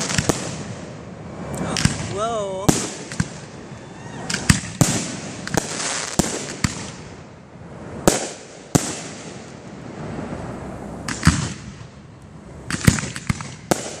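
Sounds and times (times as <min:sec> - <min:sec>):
firework shells bursting: 0:00.0 - 0:09.8, 0:11.0 - 0:14.0.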